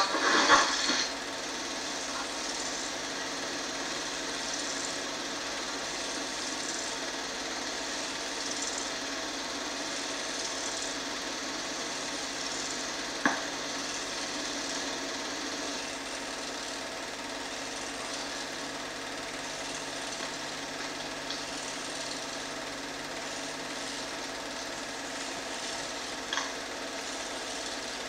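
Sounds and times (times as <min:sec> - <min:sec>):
film projector whirring: 0:00.0 - 0:28.0.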